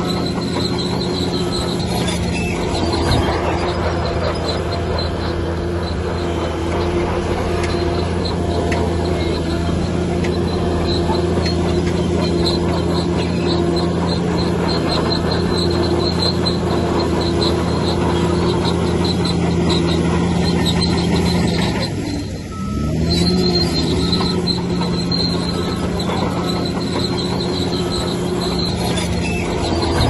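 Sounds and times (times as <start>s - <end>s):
heavy diesel machine running: 0.0s - 30.0s
high-pitched squeak: 0.0s - 30.0s.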